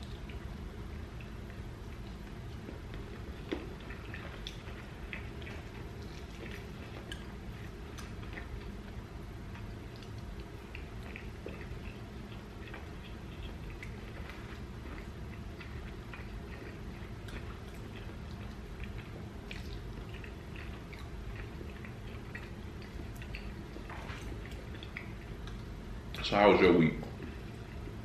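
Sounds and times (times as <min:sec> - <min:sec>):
person chewing and smacking: 0:00.0 - 0:26.2, 0:27.1 - 0:28.0
low steady hum: 0:00.0 - 0:28.0.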